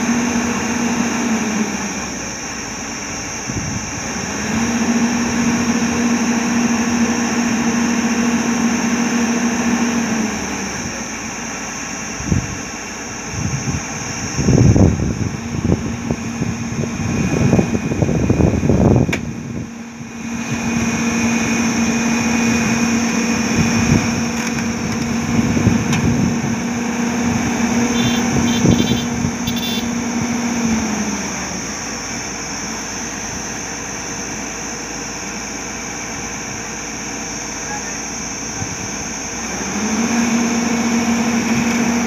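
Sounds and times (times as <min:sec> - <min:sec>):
diesel engine rumbling under load: 0:00.0 - 0:42.0
hydraulic whine: 0:00.0 - 0:42.0.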